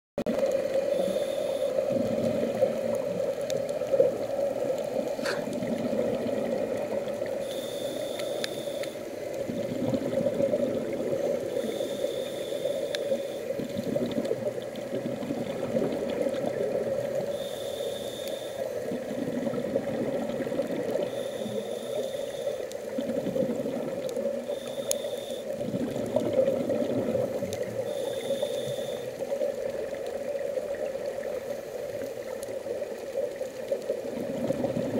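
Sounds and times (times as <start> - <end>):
steady underwater hum: 0.2 - 34.9.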